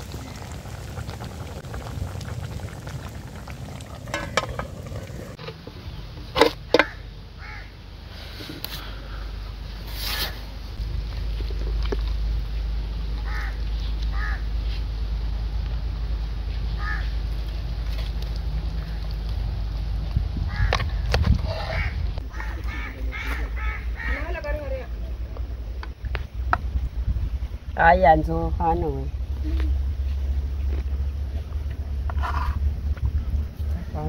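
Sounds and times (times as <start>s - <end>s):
low rumble: 0.0s - 6.2s, 10.6s - 34.0s.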